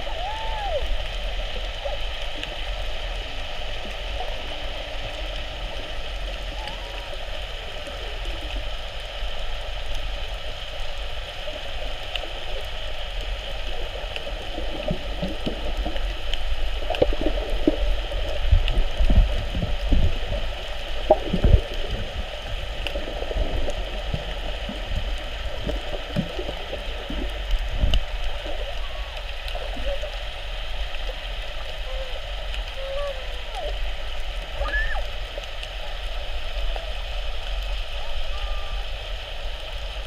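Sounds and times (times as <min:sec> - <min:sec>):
water gurgles: 0:00.0 - 0:40.0.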